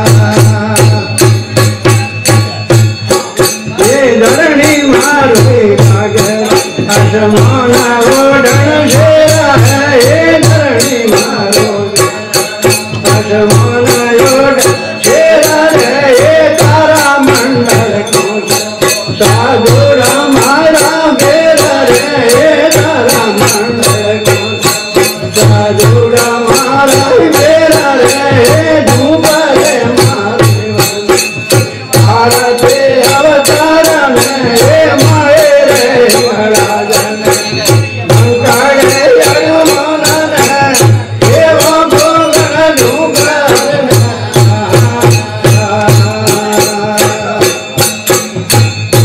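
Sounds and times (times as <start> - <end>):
man singing: 0.0 - 49.0.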